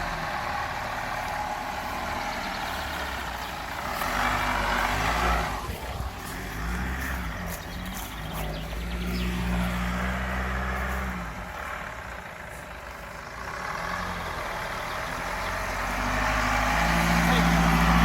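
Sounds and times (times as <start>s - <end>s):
off-road vehicle engine under load: 0.0s - 18.0s.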